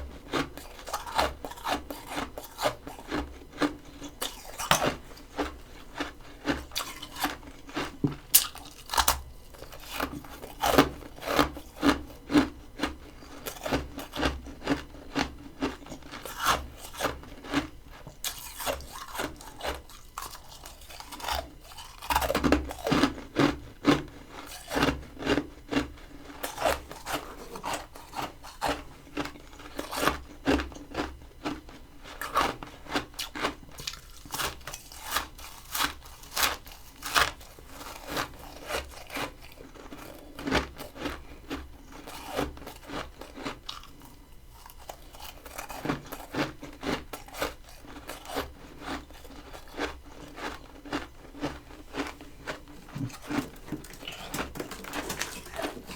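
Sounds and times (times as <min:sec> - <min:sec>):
chewing crunchy frost: 0:00.0 - 0:55.9.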